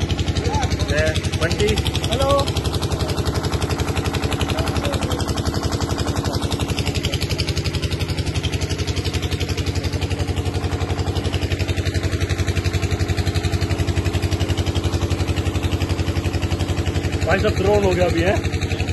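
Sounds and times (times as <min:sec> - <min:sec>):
engine chugging steadily: 0:00.0 - 0:18.9.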